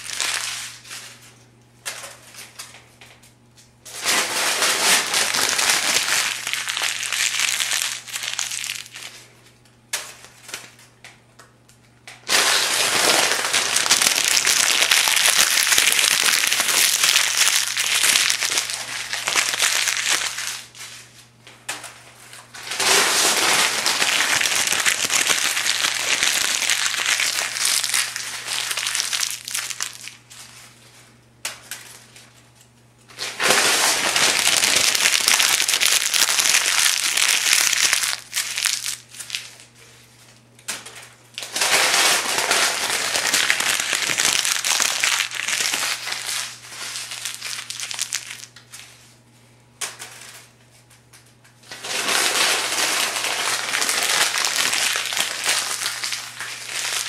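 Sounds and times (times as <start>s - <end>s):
paper pages being crumpled: 0.0s - 1.4s, 4.0s - 9.4s, 12.2s - 21.4s, 22.2s - 31.0s, 32.0s - 39.8s, 41.4s - 49.2s, 51.7s - 57.0s.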